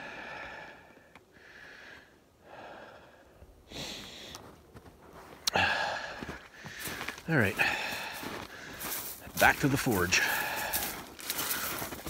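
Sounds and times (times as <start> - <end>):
man breathing hard: 0.0 - 4.6, 5.4 - 9.2, 10.1 - 12.0.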